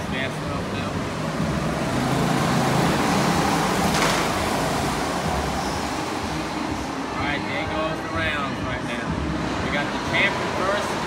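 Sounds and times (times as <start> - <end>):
go-kart engines droning: 0.0 - 11.0.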